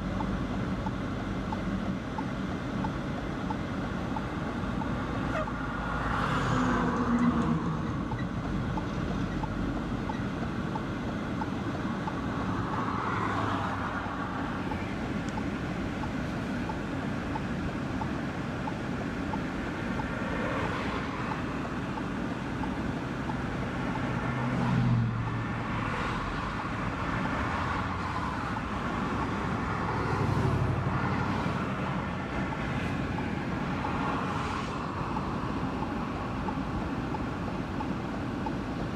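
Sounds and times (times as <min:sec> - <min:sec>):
car road noise from inside: 0:00.0 - 0:38.9.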